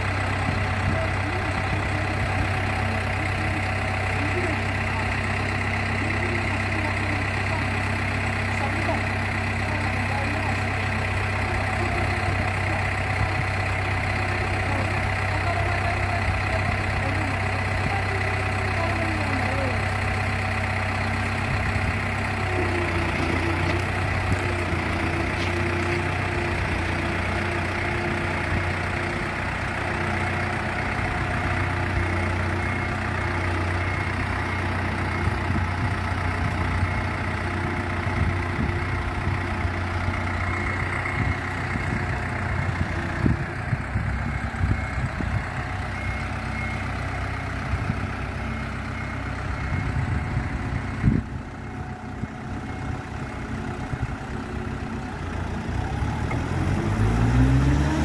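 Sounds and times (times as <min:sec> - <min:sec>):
large engine idling: 0:00.0 - 0:58.0.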